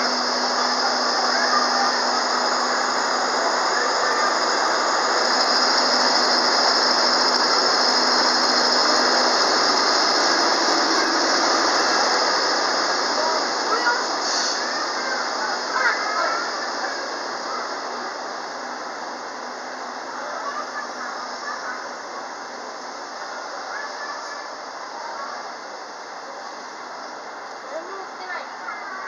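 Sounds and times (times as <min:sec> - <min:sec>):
rumble of train wheels: 0:00.0 - 0:29.0.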